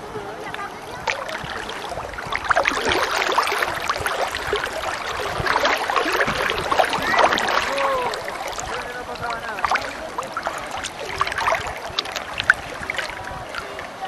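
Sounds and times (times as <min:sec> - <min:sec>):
lake water lapping and splashing: 0:00.0 - 0:14.0.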